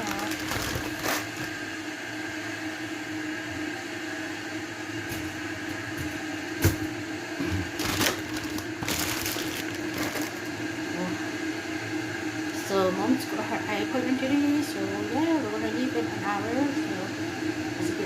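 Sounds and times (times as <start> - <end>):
appliance hum: 0.0 - 18.0.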